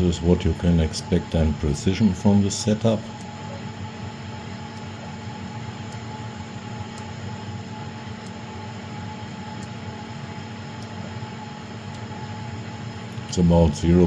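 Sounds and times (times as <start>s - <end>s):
workshop machinery hum: 0.0s - 14.0s.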